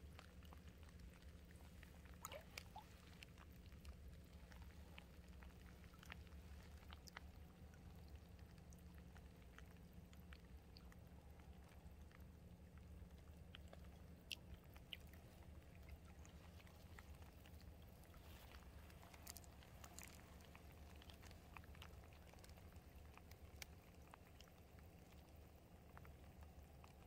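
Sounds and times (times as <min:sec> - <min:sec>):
small ticks: 0:00.0 - 0:27.0
steady low hum: 0:00.0 - 0:27.0
stream faintly trickling: 0:00.0 - 0:27.0.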